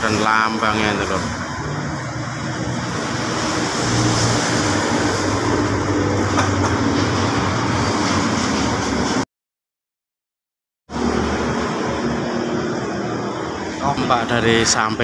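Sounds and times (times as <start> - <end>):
outdoor background noise: 0.0 - 9.2, 10.9 - 15.0.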